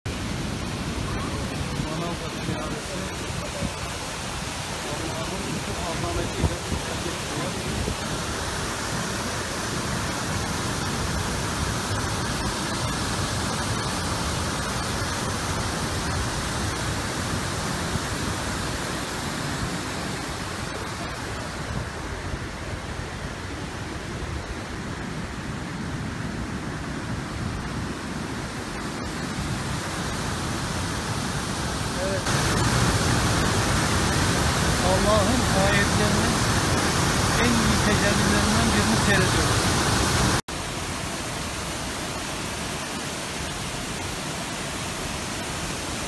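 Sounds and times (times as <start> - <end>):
waterfall rushing: 0.1 - 46.0.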